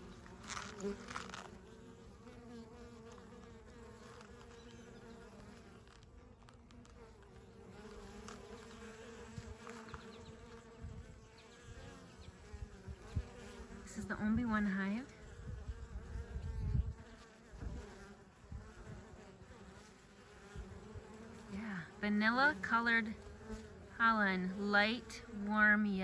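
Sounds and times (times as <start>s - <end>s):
honey bees buzzing: 0.0s - 26.0s.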